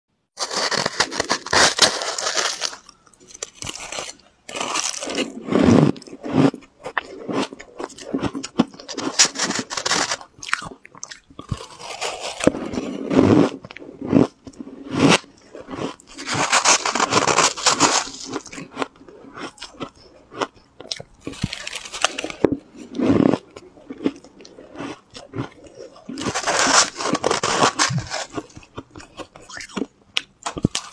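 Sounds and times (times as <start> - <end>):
chewing crunchy shaved ice: 0.4 - 30.9.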